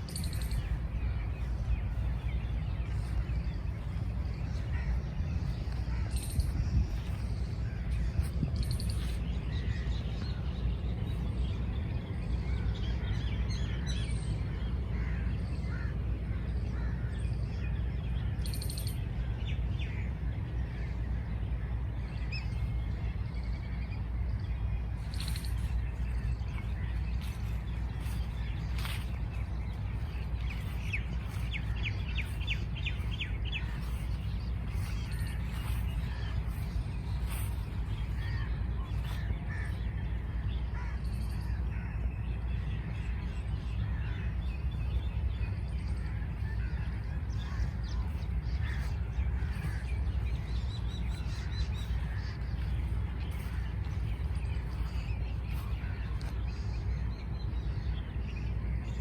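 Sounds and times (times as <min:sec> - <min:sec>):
birds chirping: 0:00.0 - 0:59.0
low background rumble: 0:00.0 - 0:59.0.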